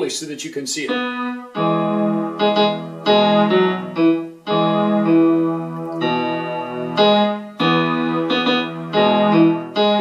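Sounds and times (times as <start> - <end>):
electronic keyboard piano notes: 0.7 - 10.0.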